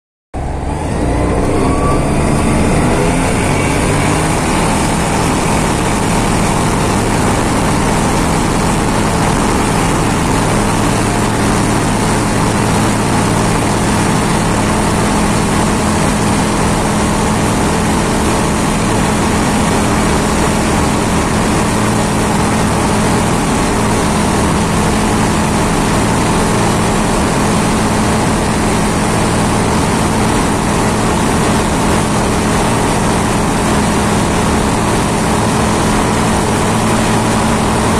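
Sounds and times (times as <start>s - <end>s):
light aircraft engine droning: 0.4s - 37.9s.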